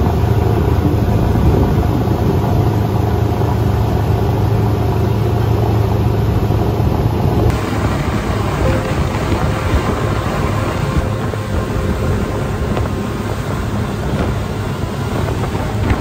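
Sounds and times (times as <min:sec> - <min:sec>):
wind rushing over microphone: 0:00.0 - 0:04.8, 0:06.3 - 0:16.0
speedboat outboard motors: 0:00.0 - 0:16.0
water rushing past hull: 0:00.0 - 0:16.0.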